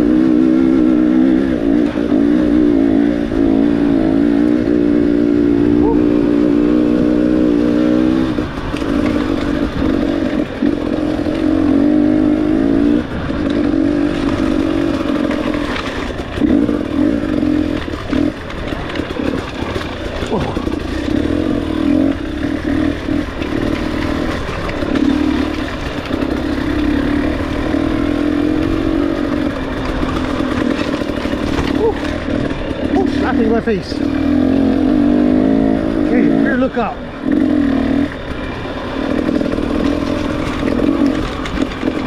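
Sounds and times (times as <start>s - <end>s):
dirt bike engine: 0.0s - 42.0s.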